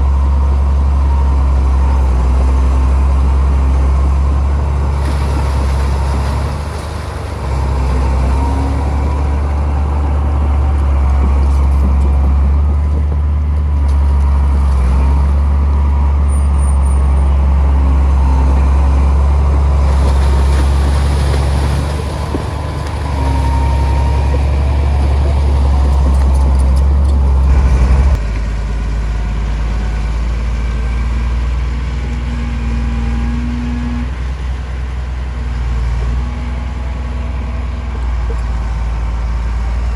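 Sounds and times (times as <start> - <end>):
heavy diesel engine rumbling: 0.0 - 39.9.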